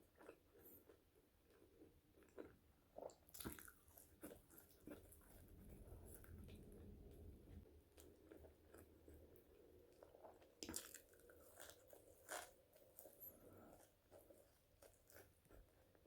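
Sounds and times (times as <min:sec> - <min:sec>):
chewing crunchy fries: 0:00.0 - 0:16.0.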